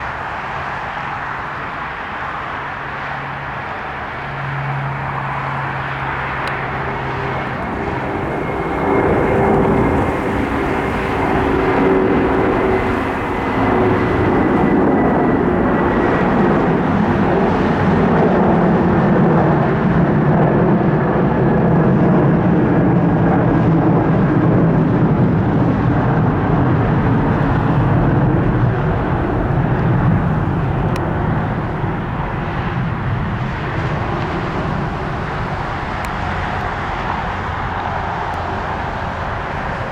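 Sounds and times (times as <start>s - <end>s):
jet engines spooling up: 0.2s - 21.8s, 24.4s - 39.9s.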